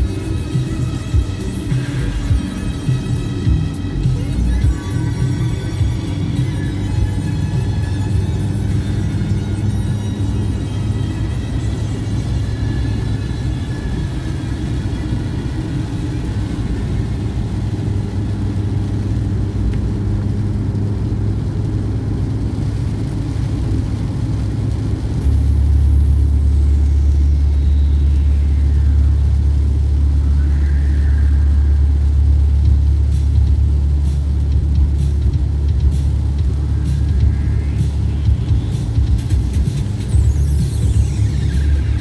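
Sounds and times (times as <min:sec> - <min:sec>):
deep rumble: 0:00.0 - 0:42.0
road and engine noise in car: 0:00.0 - 0:42.0.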